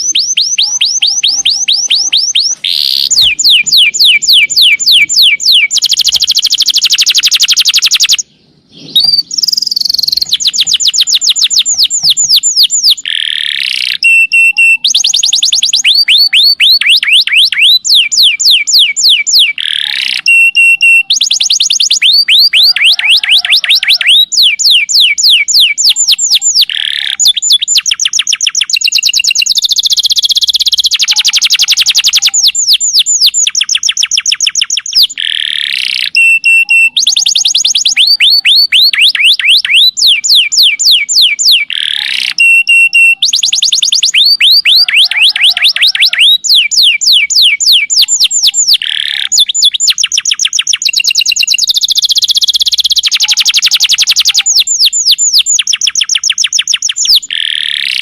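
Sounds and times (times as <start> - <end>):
canary singing trills: 0.0 - 58.0
held whistle: 0.0 - 58.0.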